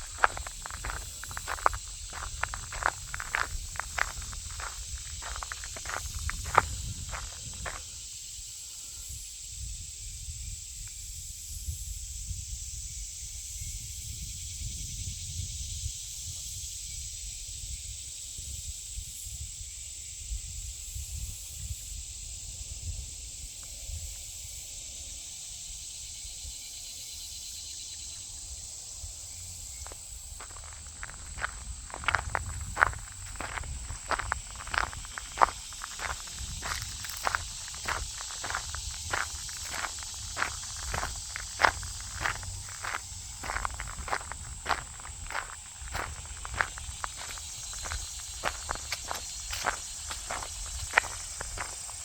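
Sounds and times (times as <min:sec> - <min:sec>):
wind rumble on microphone: 0:00.0 - 0:08.1, 0:09.0 - 0:24.3, 0:28.4 - 0:52.0
insects chorus: 0:00.0 - 0:52.0.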